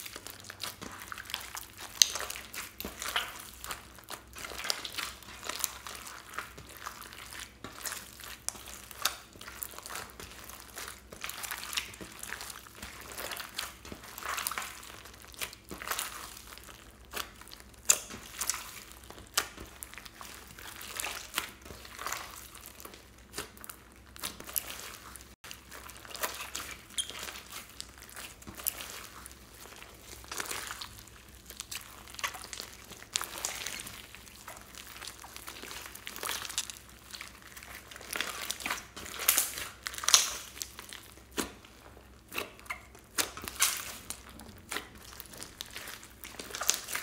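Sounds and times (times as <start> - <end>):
slime squishing and popping: 0.0 - 47.0.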